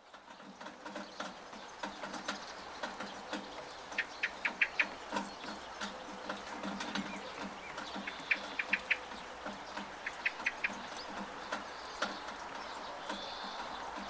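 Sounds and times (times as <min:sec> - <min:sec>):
drips from rain gutter: 0:00.0 - 0:14.0
steady rain: 0:00.0 - 0:14.0
bird chirping: 0:00.3 - 0:14.0.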